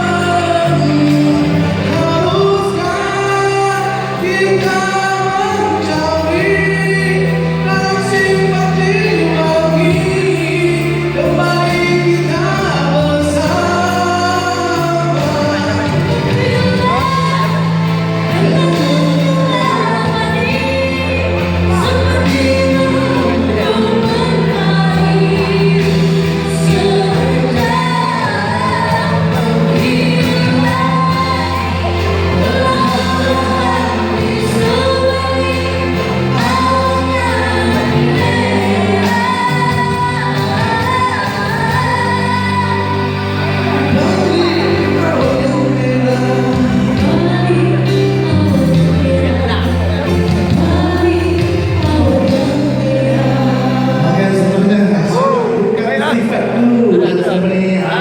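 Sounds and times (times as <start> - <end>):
musical backing track: 0.0 - 58.0
woman singing pop ballad: 0.0 - 58.0.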